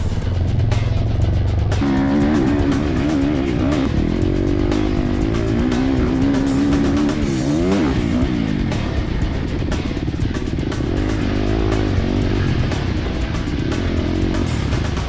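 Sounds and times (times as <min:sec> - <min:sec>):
background music with a beat: 0:00.0 - 0:15.0
dirt bike engine revving: 0:00.0 - 0:15.0.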